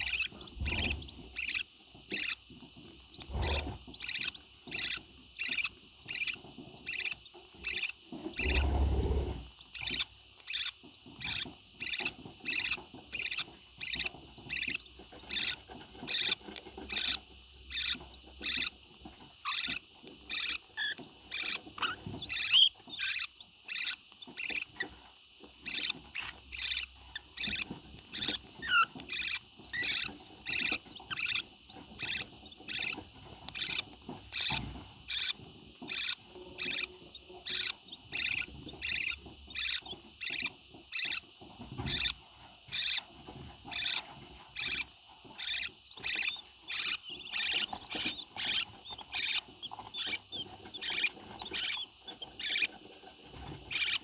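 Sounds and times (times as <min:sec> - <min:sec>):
parrot squeaking: 0:00.0 - 0:02.4, 0:03.3 - 0:18.8, 0:19.4 - 0:24.9, 0:25.6 - 0:41.2, 0:41.8 - 0:43.1, 0:43.7 - 0:52.8, 0:53.7 - 0:54.0.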